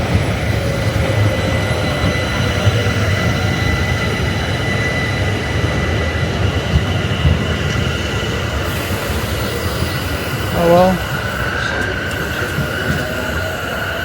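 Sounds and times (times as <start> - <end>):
electric train rumbling on rails: 0.0 - 14.0
high train whine: 0.0 - 14.0.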